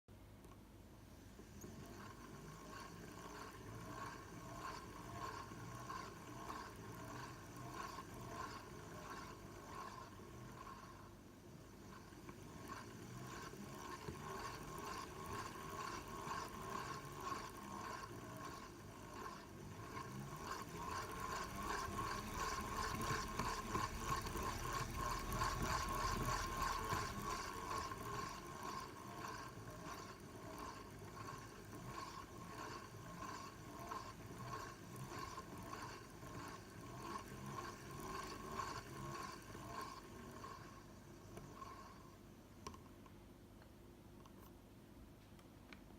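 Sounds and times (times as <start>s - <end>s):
rhythmic drone of vibrating table: 1.3s - 42.8s
fishing reel whirring: 1.5s - 42.8s.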